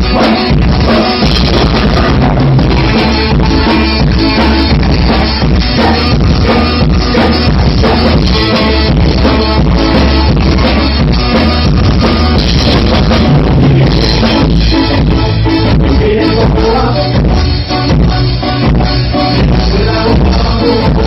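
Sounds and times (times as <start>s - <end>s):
ska band music: 0.0s - 21.0s.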